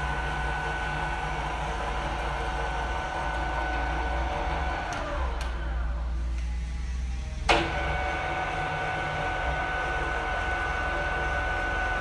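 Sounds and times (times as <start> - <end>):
pillar drill motor whining: 0.0 - 12.0.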